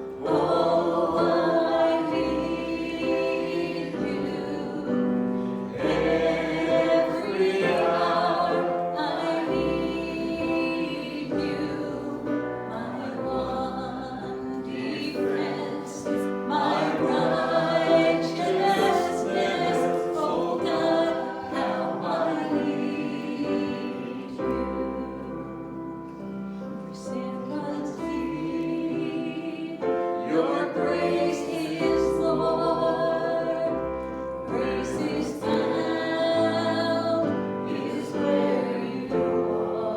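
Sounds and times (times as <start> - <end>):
congregation singing a hymn: 0.0 - 39.9
piano accompaniment: 0.0 - 39.9.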